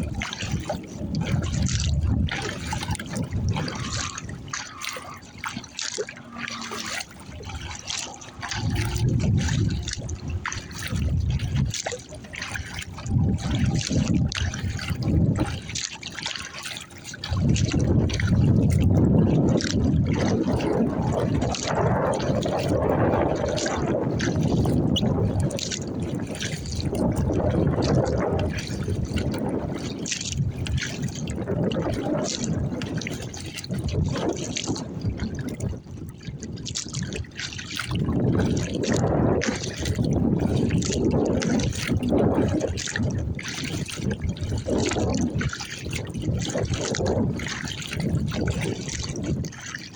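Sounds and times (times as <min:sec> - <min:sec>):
water splashing around kayak: 0:00.0 - 0:49.9
wind rumble on microphone: 0:00.0 - 0:49.9.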